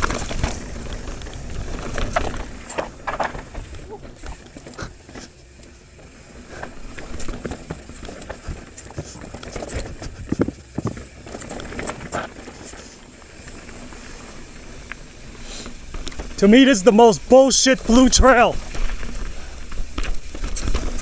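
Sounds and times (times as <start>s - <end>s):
bike knocking and rattling: 0.0s - 21.0s
bike tyres on rocky trail: 0.0s - 21.0s.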